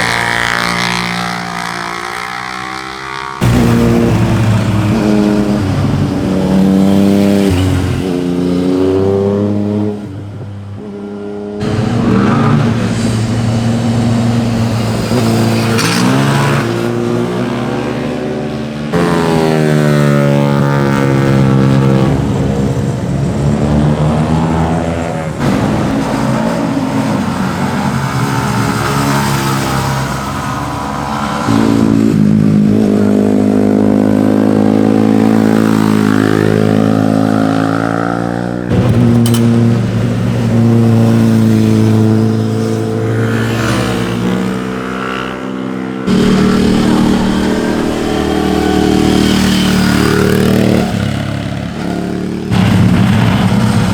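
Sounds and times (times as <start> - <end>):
motorcycle engines revving and passing: 0.0 - 53.9.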